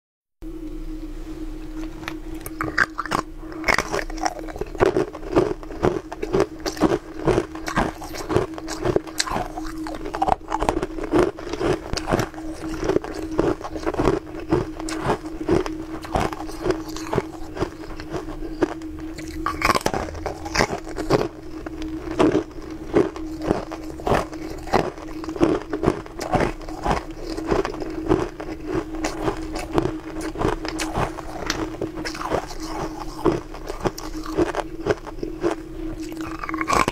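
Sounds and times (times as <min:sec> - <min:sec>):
steady hum: 0:00.4 - 0:36.9
crunching hard ice: 0:02.5 - 0:36.9.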